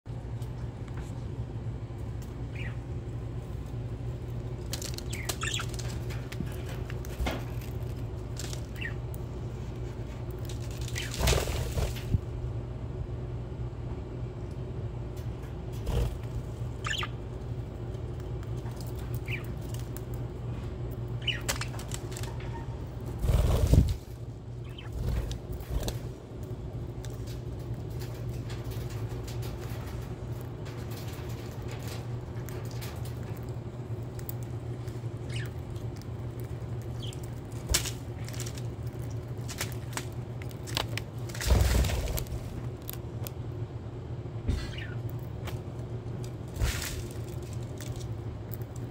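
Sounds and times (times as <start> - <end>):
steady low hum: 0.1 - 48.9.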